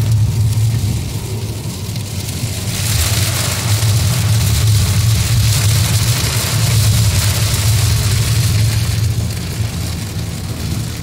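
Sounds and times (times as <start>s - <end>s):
car engine and road drone: 0.0s - 11.0s
rain: 0.0s - 11.0s
tyres hissing on wet pavement: 0.0s - 11.0s.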